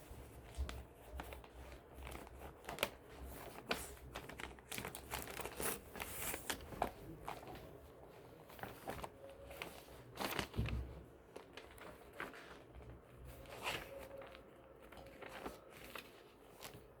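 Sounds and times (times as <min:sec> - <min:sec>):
paper crinkling: 0:00.0 - 0:17.0.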